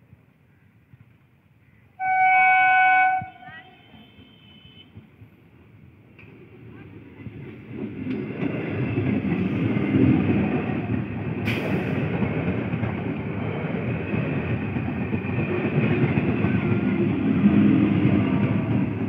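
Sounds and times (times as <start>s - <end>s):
train passing on rails: 0.9s - 19.0s.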